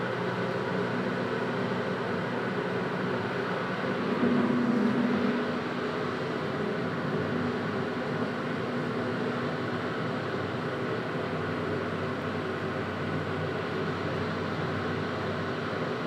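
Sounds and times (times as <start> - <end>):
tram equipment hum and hiss: 0.0 - 16.0.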